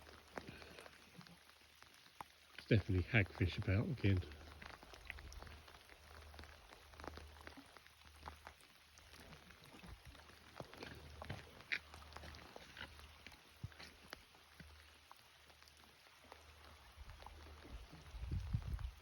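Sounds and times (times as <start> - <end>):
raindrops ticking: 0.0 - 19.0.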